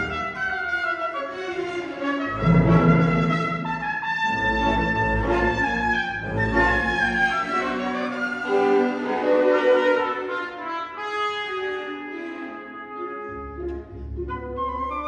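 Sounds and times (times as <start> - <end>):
brass section: 0.0 - 13.6
orchestra playing sustained chords: 0.0 - 14.3.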